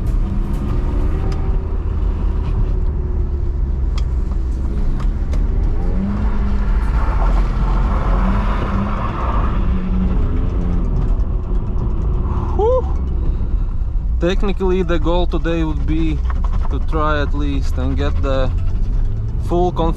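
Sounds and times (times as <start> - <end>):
car engine rumbling: 0.0 - 19.9.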